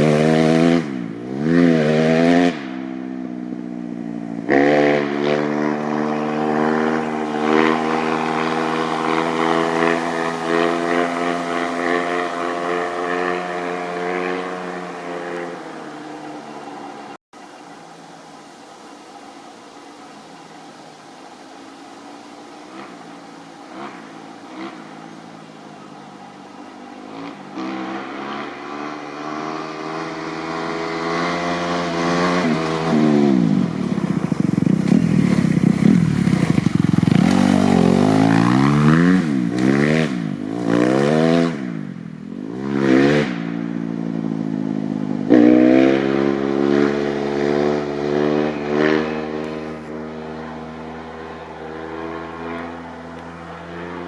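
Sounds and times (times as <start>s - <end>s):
dirt bike revving: 0.0s - 17.2s, 21.6s - 54.0s.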